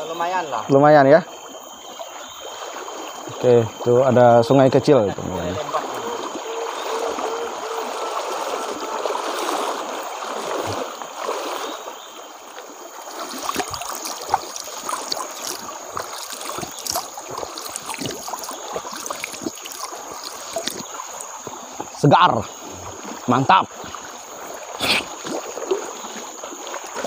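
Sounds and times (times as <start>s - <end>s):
stony stream running: 0.0s - 27.0s
water dripping and trickling: 0.2s - 27.0s
feet wading and splashing: 1.2s - 27.0s.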